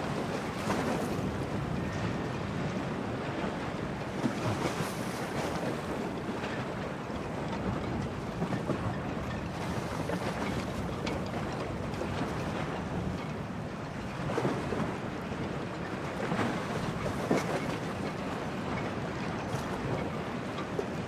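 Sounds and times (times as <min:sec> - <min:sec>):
waves washing and splashing: 0:00.0 - 0:21.0.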